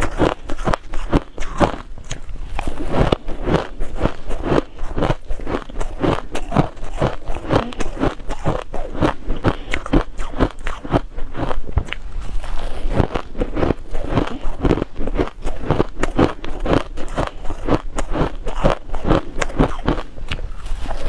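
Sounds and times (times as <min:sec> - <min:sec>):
chewing crushed ice: 0:00.0 - 0:21.0.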